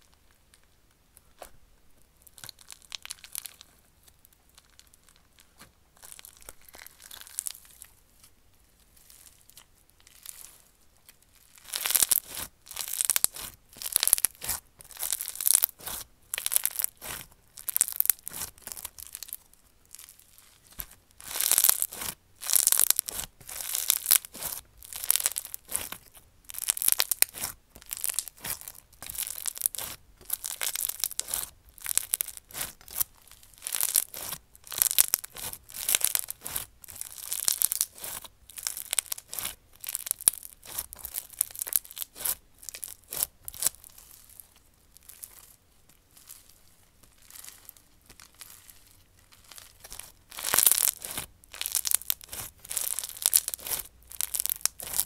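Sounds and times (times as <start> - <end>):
crunchy slime crackling and popping: 2.2 - 55.0.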